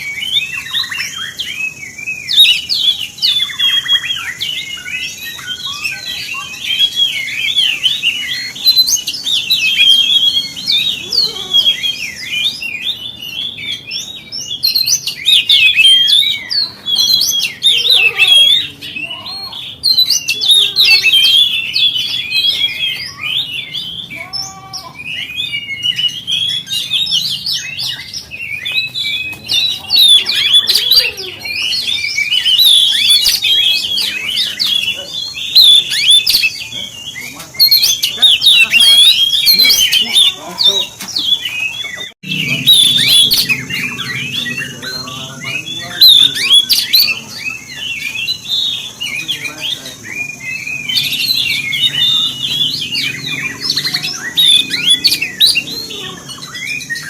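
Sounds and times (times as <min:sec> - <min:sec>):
bird singing varied chirps and trills: 0:00.0 - 0:57.0.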